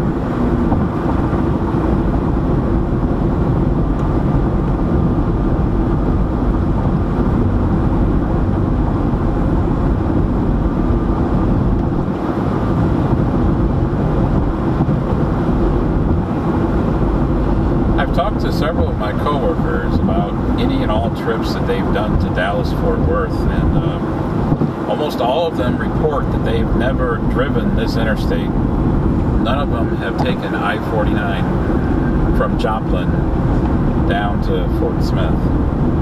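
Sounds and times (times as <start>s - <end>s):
car road noise at highway speed: 0.0s - 36.0s.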